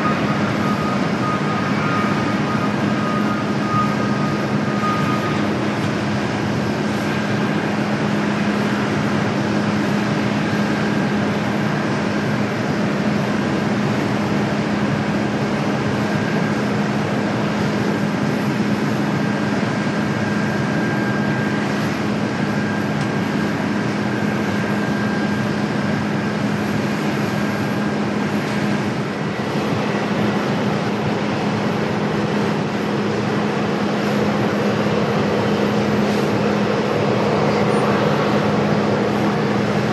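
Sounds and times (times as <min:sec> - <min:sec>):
faint high engine whine: 0:00.0 - 0:39.9
jet engines roaring: 0:00.0 - 0:39.9.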